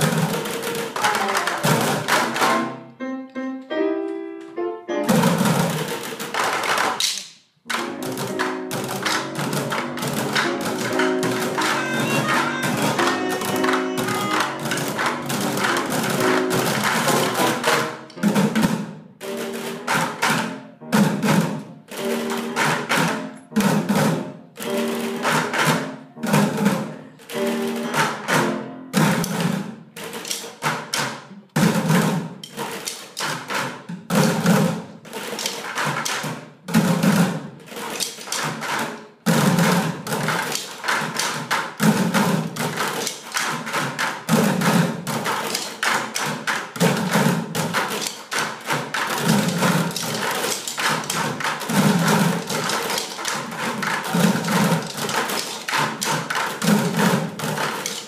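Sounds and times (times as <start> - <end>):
children drumming on buckets: 0.0 - 2.9, 5.0 - 58.0.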